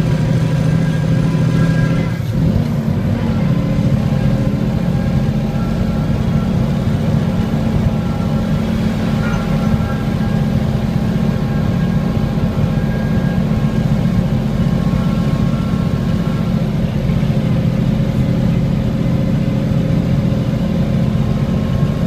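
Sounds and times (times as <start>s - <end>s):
diesel engine droning uphill: 0.0s - 22.0s.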